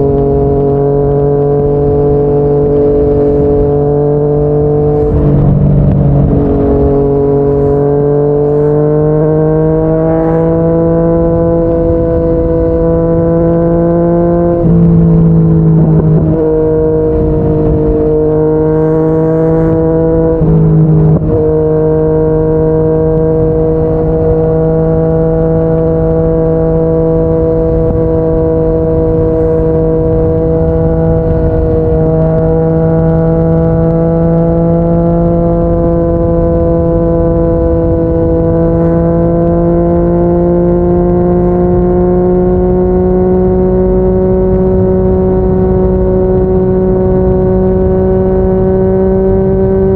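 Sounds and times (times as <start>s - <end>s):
motorcycle engine cruising: 0.0s - 49.9s.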